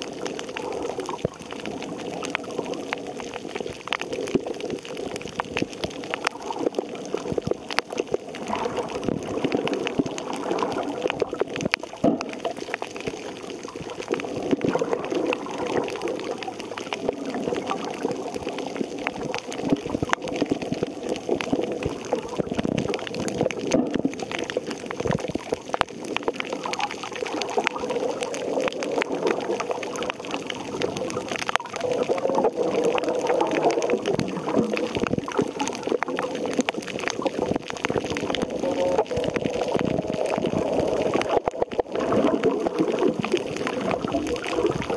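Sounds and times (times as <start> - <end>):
muffled underwater seawater wash: 0.0 - 44.9
small underwater clicks and crackles: 0.0 - 44.9.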